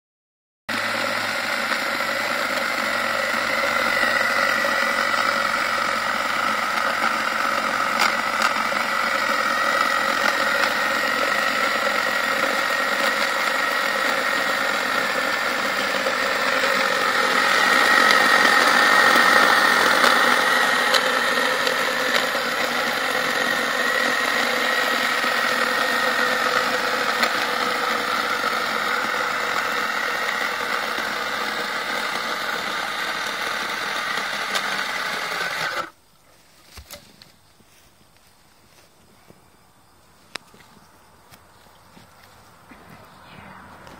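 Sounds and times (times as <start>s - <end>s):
electric chainsaw cutting wood: 0.7s - 36.0s, 41.3s - 43.9s.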